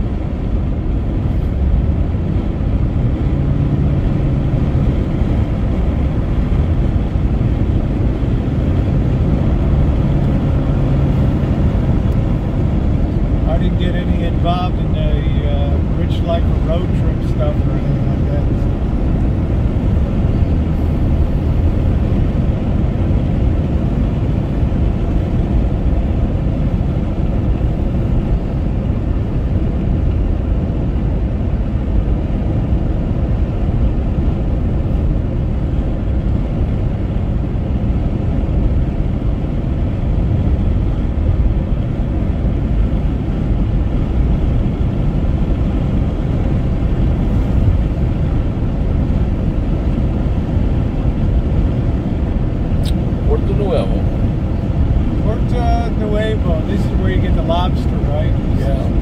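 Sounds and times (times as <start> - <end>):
car road and wind noise: 0.0 - 59.0.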